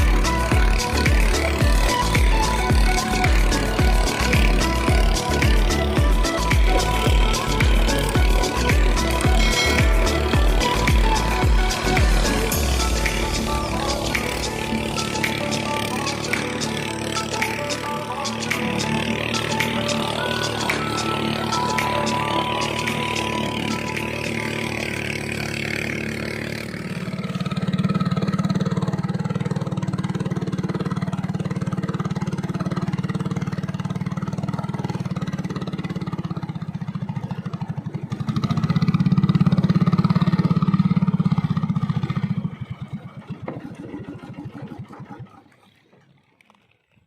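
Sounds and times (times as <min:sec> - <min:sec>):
small engine running: 0:00.0 - 0:47.0.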